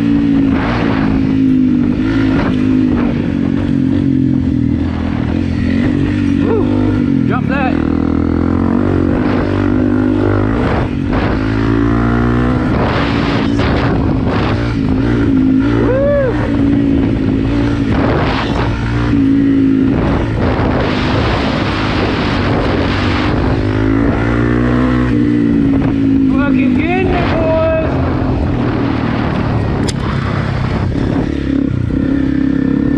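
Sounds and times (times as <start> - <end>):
motorcycle engine running: 0.0 - 32.9
wind rush: 0.0 - 32.9.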